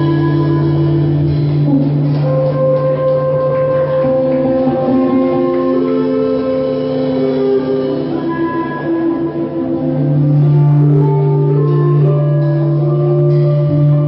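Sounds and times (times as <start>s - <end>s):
instrumental folk music: 0.0s - 14.0s.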